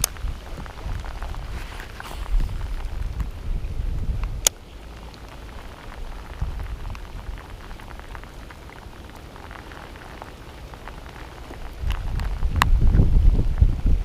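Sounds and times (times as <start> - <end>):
hard rain falling: 0.0 - 14.0.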